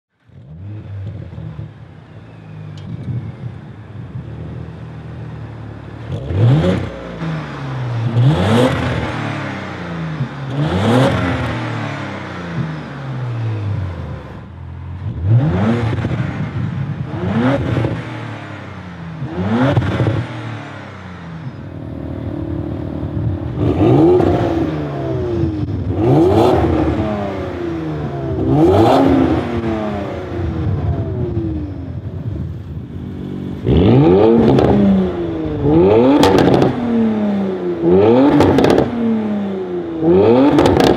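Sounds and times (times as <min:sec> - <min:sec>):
car engine revving: 0:00.2 - 0:40.9.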